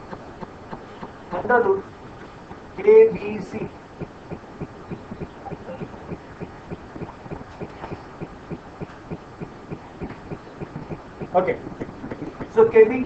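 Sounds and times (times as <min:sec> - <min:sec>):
faint regular ticking: 0:00.0 - 0:13.0
low steady hum: 0:00.0 - 0:13.0.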